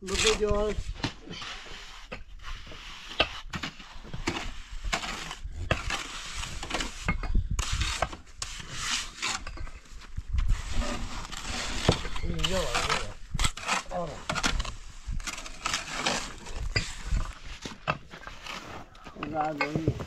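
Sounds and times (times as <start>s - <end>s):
rough scraping strokes: 0.0s - 20.0s.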